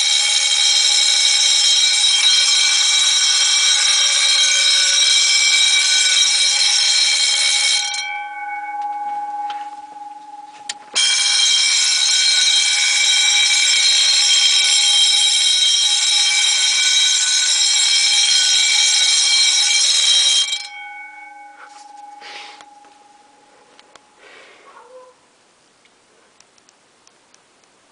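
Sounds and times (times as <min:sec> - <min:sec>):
electric alarm bells ringing: 0:00.0 - 0:24.3.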